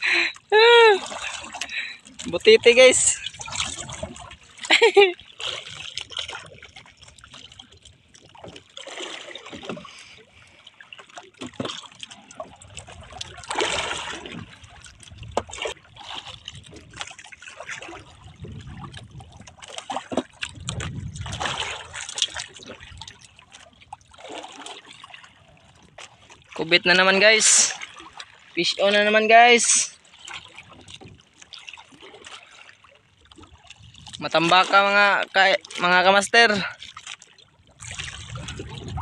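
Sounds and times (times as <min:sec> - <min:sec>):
water splashing against boat: 0:00.0 - 0:39.0.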